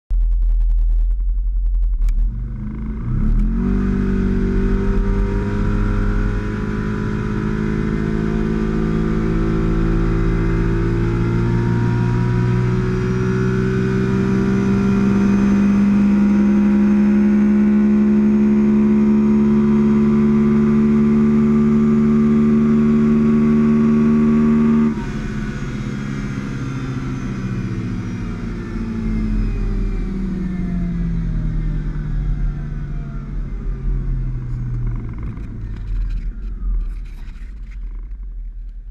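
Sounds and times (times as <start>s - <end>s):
engine revving at full throttle: 2.0s - 34.4s.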